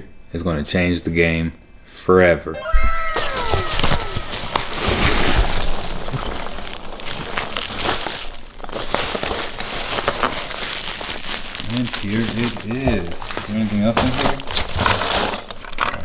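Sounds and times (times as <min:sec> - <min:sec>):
packaging crinkling: 0:03.1 - 0:16.0
small crackles and clicks: 0:03.2 - 0:16.0.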